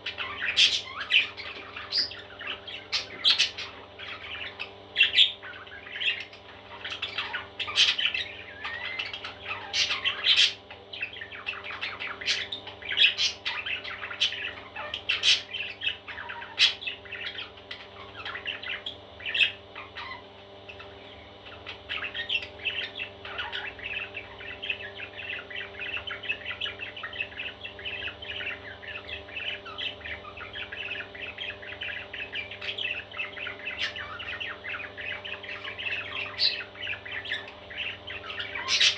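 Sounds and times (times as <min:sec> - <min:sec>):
parrots chattering chirps: 0:00.0 - 0:38.9
parrots squawking: 0:00.0 - 0:38.9.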